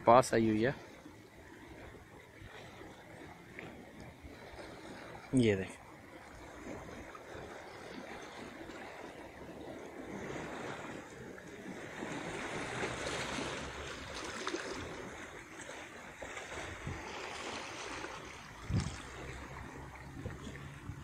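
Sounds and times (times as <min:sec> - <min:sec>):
stream water over stones: 0:00.0 - 0:21.0
wind rumbling on microphone: 0:00.8 - 0:21.0.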